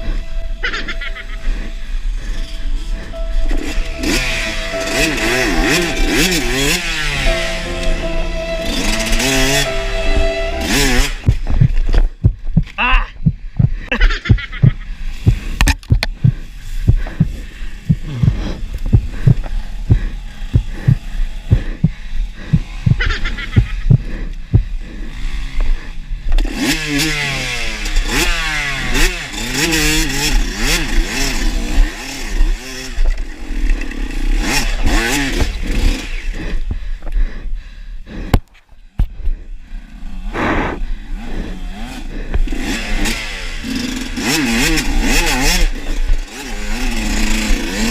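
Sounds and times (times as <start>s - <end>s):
dirt bike engine revving: 0.0s - 9.9s, 14.4s - 36.9s, 39.4s - 47.9s.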